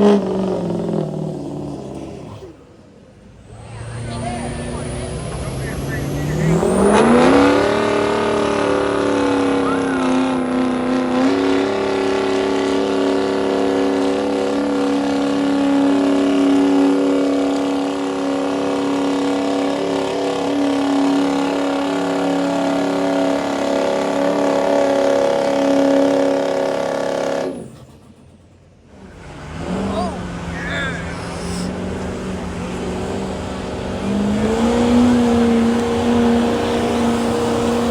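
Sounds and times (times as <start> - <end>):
engine at high revs: 0.0 - 37.9.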